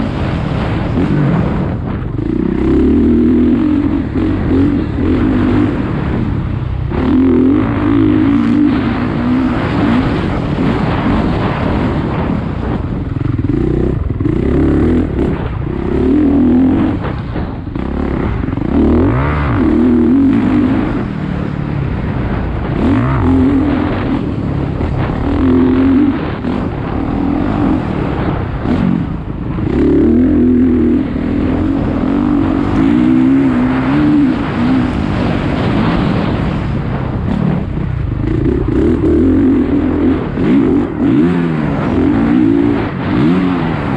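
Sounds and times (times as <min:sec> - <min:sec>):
vehicle engine revving hard: 0:00.0 - 0:12.3, 0:13.2 - 0:36.6, 0:38.3 - 0:43.9.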